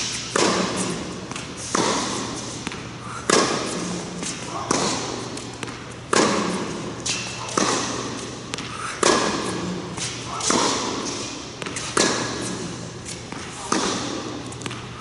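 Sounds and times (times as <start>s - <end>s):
racquets hitting tennis ball: 0.0s - 15.0s.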